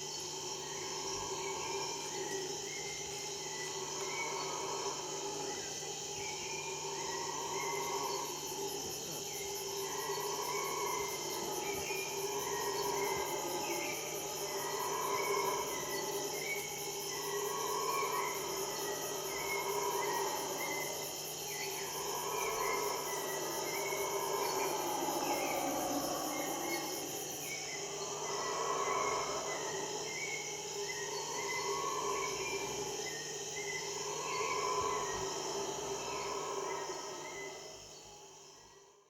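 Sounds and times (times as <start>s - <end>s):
high-pitched insect buzzes: 0.0s - 38.8s
fast pulsing insect trill: 0.0s - 39.0s
lower insect call: 0.0s - 39.0s.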